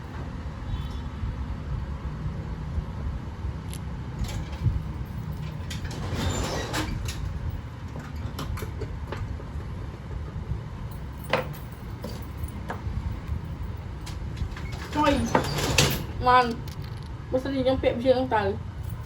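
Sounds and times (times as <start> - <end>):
steady low rumble: 0.0 - 5.9, 7.0 - 15.0, 16.0 - 19.0.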